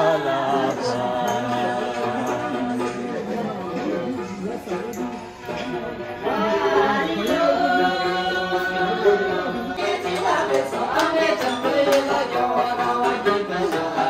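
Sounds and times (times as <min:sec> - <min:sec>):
music with gliding singing voice: 0:00.0 - 0:14.0.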